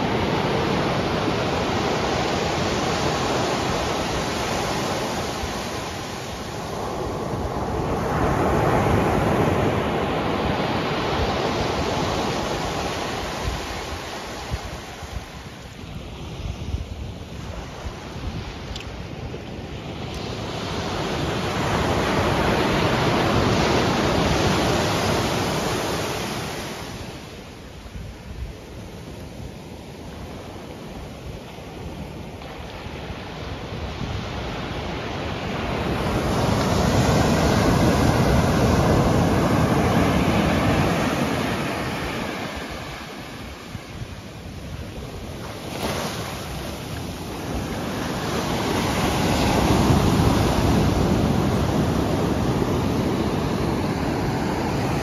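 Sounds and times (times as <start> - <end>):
waves breaking on sand: 0.0 - 55.0.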